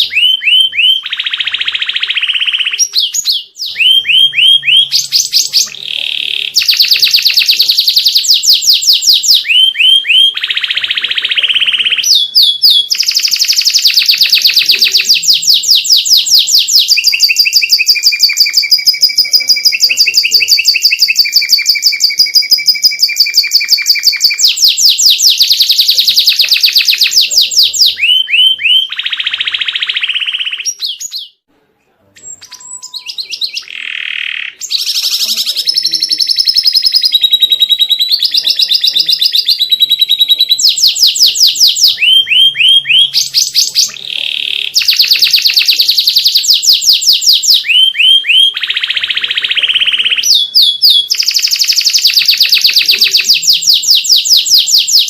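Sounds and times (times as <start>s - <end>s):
canary singing trills: 0.0s - 31.4s, 32.1s - 55.0s.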